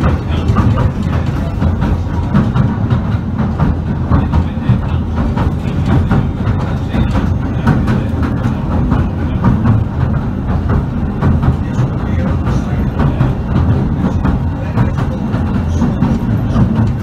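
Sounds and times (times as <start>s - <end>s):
train rumbling: 0.0s - 17.0s
wheels clicking and rattling on track: 0.0s - 17.0s.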